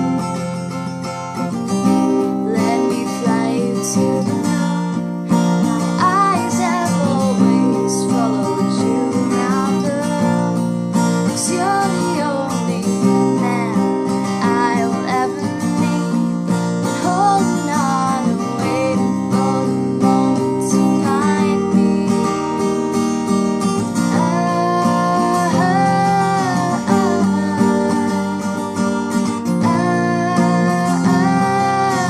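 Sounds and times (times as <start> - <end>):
acoustic guitar strumming: 0.0 - 32.0
person singing: 2.1 - 4.9, 5.9 - 10.6, 11.3 - 16.2, 16.9 - 22.9, 23.8 - 32.0.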